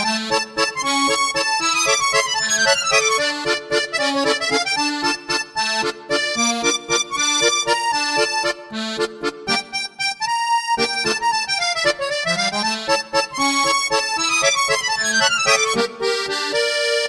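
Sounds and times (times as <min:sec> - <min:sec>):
accordion waltz: 0:00.0 - 0:17.0.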